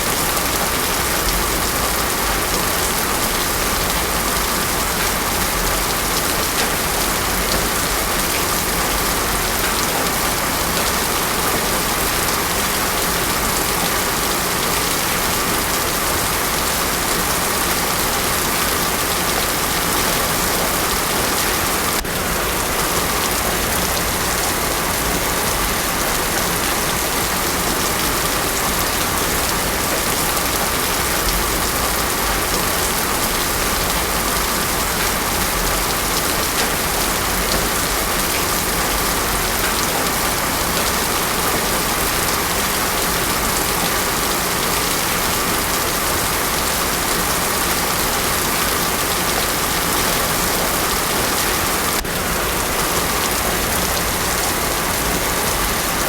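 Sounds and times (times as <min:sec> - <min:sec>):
heavy rain on a road: 0:00.0 - 0:56.0.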